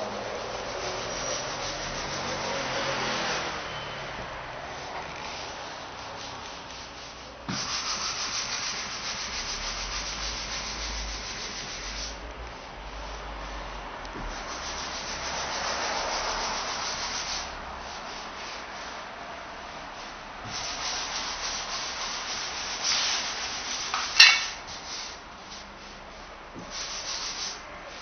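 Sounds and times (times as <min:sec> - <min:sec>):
rubbing on car paint: 0:00.0 - 0:28.0.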